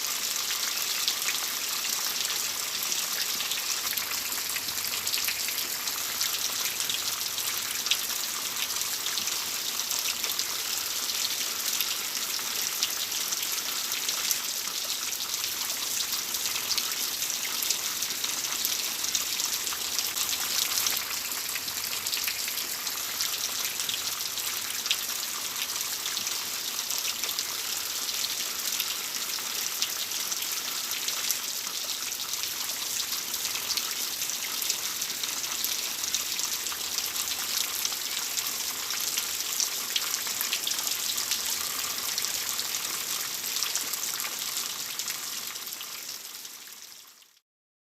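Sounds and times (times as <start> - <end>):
rain on hard surface: 0.0 - 47.4.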